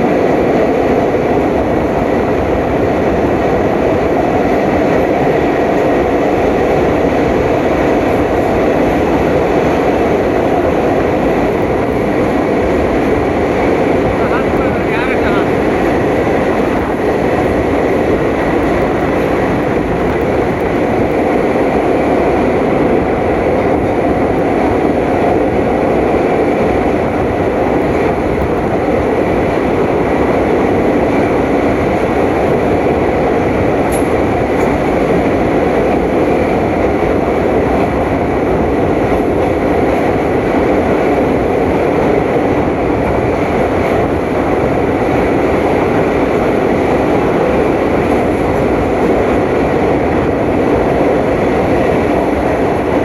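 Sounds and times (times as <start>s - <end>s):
passenger train rumbling on track: 0.0s - 53.0s.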